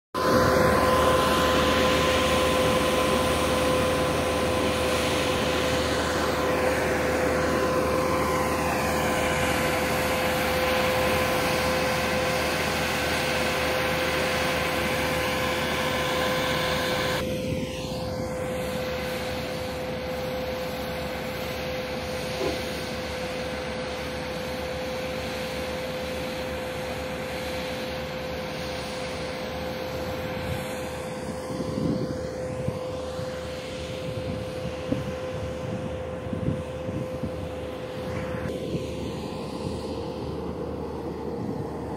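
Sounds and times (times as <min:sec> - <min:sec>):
diesel engine drone: 0:00.1 - 0:41.9
high machine whine: 0:00.2 - 0:41.9.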